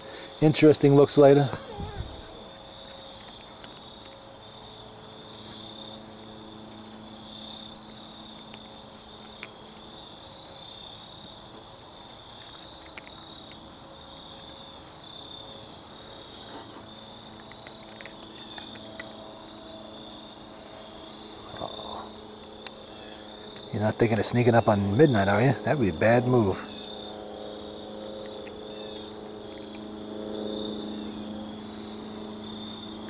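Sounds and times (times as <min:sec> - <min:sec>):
crickets trilling: 0:00.0 - 0:33.0
faint low hum: 0:00.0 - 0:33.0.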